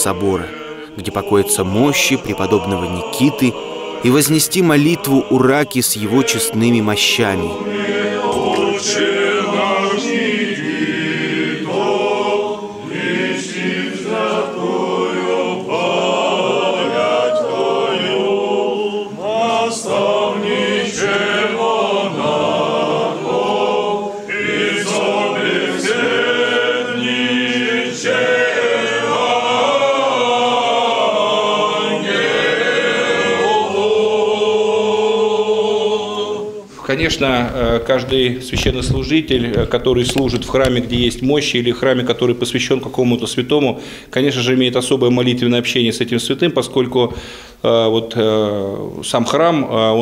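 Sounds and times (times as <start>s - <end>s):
choir singing unaccompanied chant: 0.0s - 43.2s.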